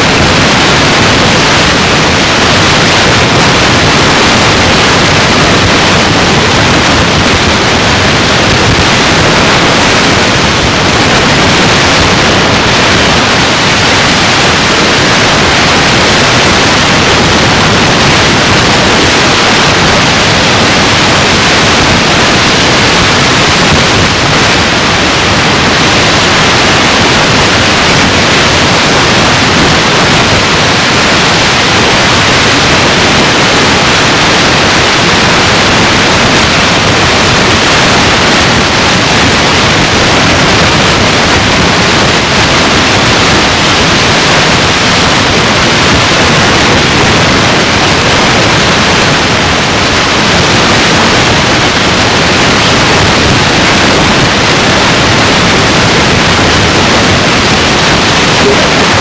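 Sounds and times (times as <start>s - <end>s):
static hiss: 0.0s - 59.0s.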